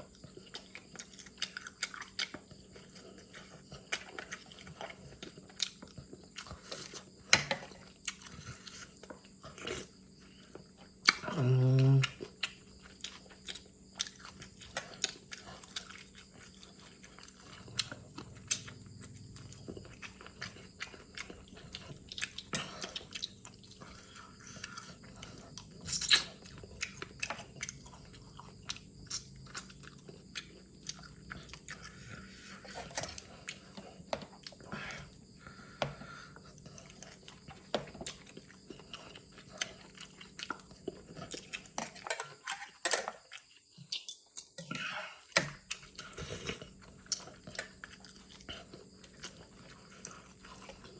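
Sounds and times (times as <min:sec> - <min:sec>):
person chewing seafood: 0:00.0 - 0:50.9.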